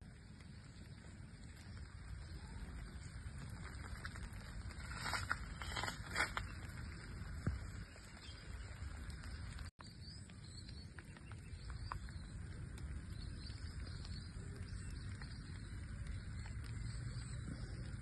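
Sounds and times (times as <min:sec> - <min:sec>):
rain hissing: 0:00.0 - 0:18.0
raindrops ticking: 0:00.0 - 0:18.0.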